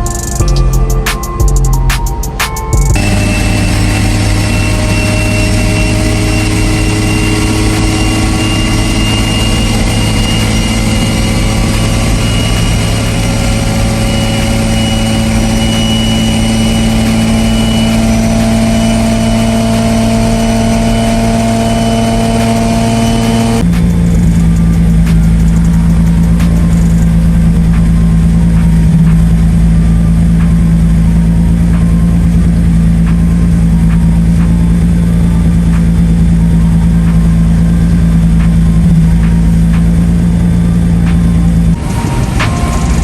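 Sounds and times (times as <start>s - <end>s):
car engine running steadily: 0.0s - 43.0s.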